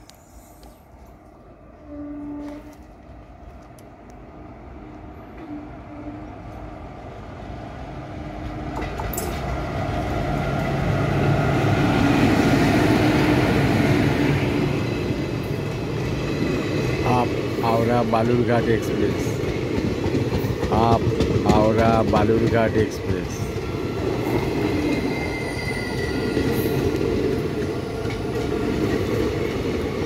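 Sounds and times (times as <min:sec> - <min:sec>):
train passing with rumble: 0:00.0 - 0:30.0.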